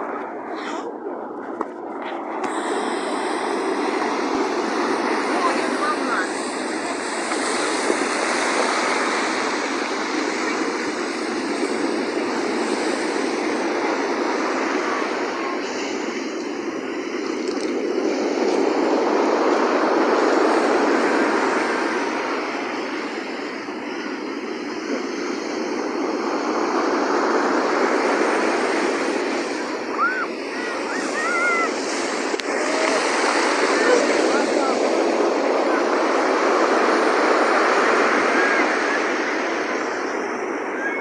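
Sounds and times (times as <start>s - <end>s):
sea waves washing in: 0.0s - 41.0s.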